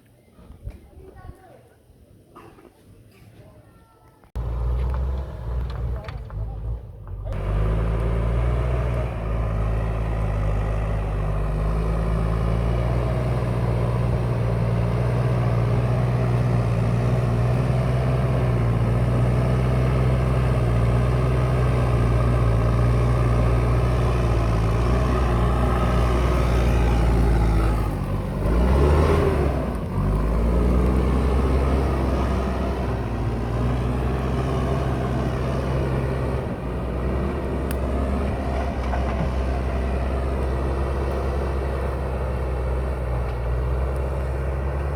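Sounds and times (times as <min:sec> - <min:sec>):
diesel engine under load: 0:04.4 - 0:44.9.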